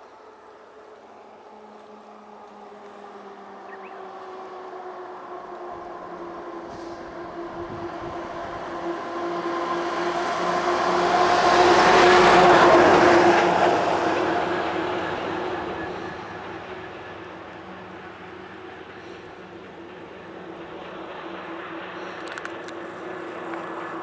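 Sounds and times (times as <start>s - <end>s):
vehicle passing: 0.1s - 24.0s.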